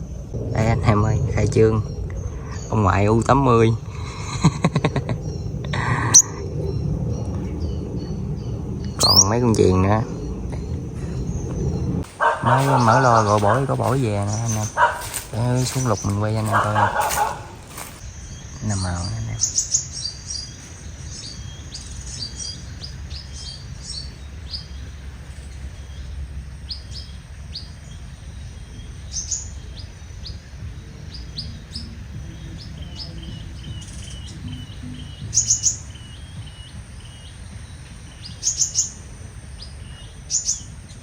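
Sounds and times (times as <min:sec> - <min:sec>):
birds chirping: 0:00.0 - 0:41.0
low rumble: 0:00.0 - 0:41.0.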